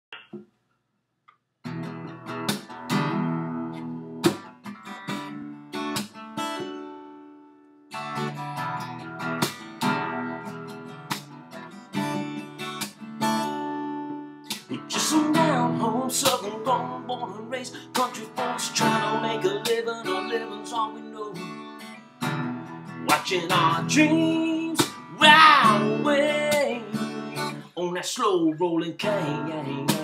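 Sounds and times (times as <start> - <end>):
acoustic guitar strumming chords: 1.7 - 30.0.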